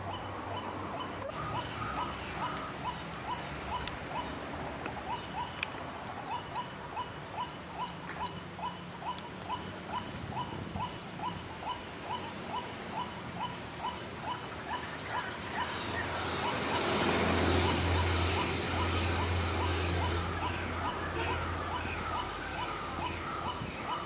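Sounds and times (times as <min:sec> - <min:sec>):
bird calling: 0:00.0 - 0:24.0.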